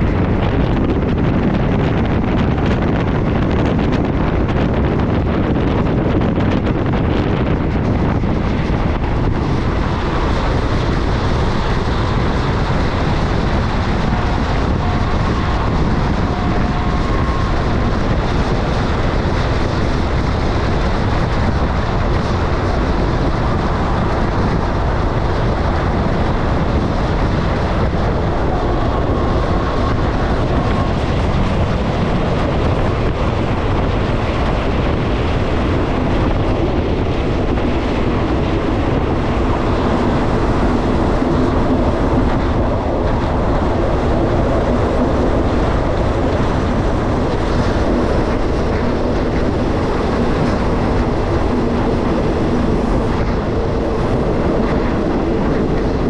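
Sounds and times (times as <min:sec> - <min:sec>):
train rumble and rush: 0:00.0 - 0:56.0.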